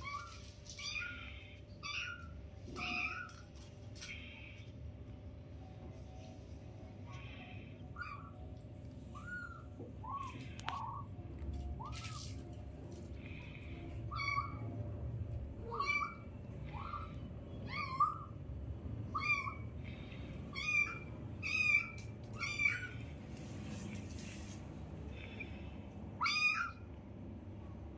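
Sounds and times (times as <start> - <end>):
kittens mewing: 0.0 - 5.2, 6.8 - 24.0, 25.0 - 27.2.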